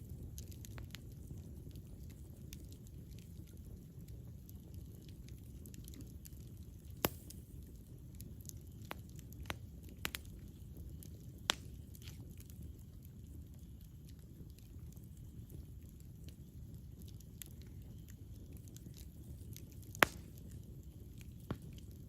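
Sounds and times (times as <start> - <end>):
burning wood crackling and popping: 0.0 - 22.0
campfire rumble: 0.0 - 22.0.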